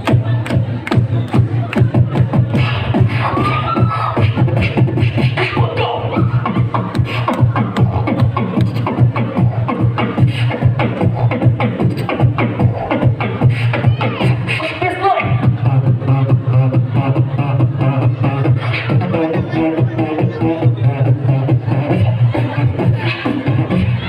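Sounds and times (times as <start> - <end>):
person beatboxing: 0.0 - 24.0.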